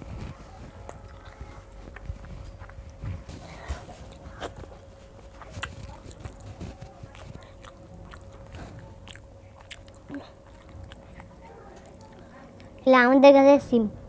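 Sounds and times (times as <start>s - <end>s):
chewing and mouth noises: 0.0s - 12.9s
faint steady hum: 0.0s - 14.0s.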